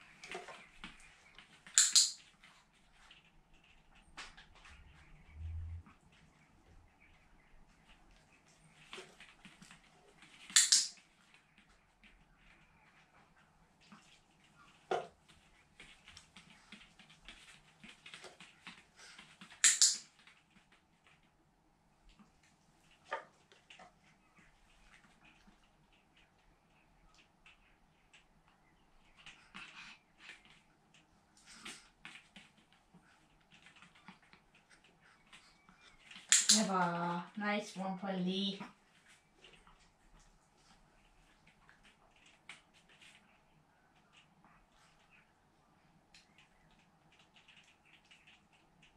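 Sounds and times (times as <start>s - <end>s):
dog padding on foam mats: 0.0s - 48.9s.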